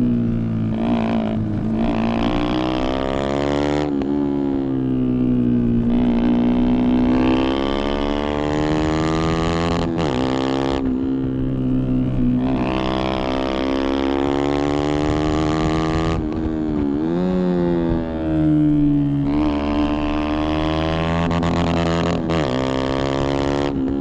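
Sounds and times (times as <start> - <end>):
motorcycle engine running hard: 0.0 - 24.0.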